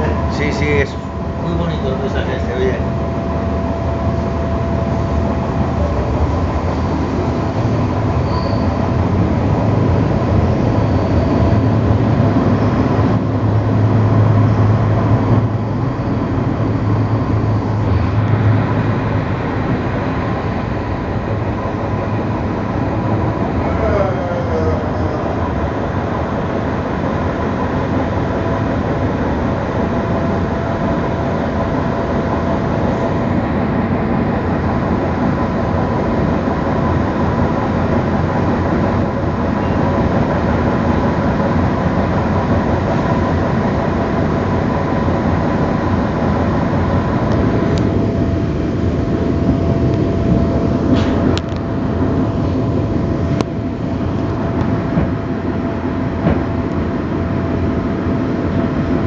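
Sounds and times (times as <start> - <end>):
faint steady whine: 0.0 - 59.0
train rumble from inside carriage: 0.0 - 59.0.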